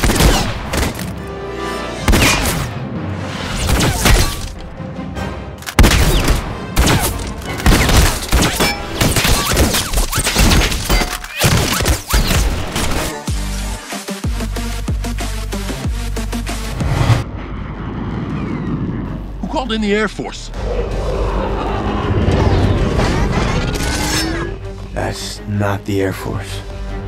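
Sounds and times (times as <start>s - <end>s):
music: 0.0s - 17.3s, 19.0s - 27.0s.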